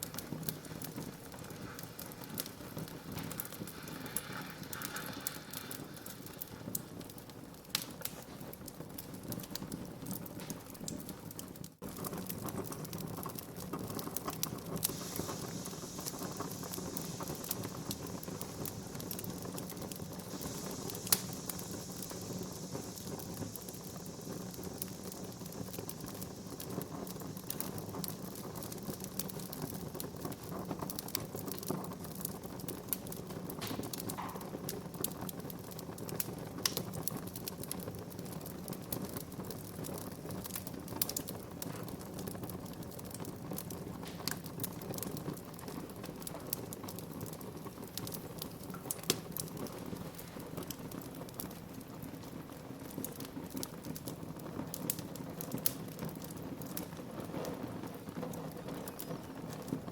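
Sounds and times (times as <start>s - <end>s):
low rush of flame: 0.0s - 59.9s
wood fire crackling and popping: 0.0s - 59.9s.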